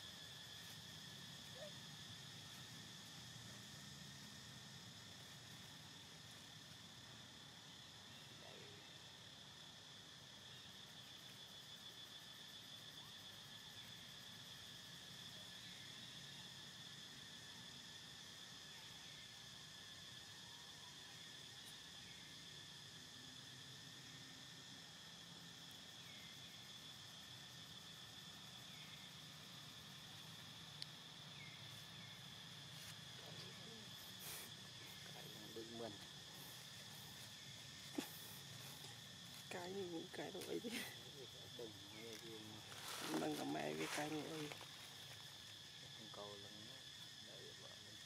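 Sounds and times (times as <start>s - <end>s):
high-pitched insect chorus: 0.0s - 48.0s.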